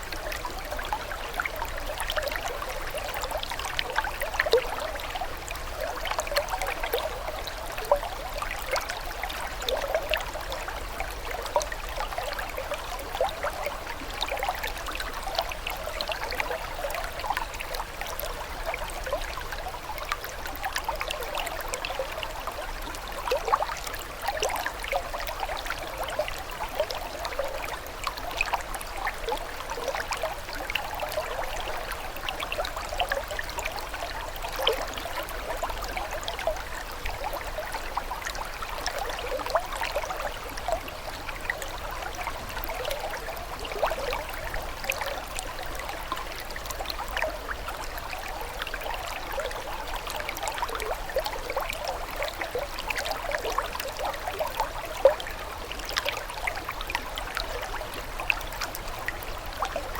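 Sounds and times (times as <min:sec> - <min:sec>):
water trickling and babbling: 0:00.0 - 0:59.9.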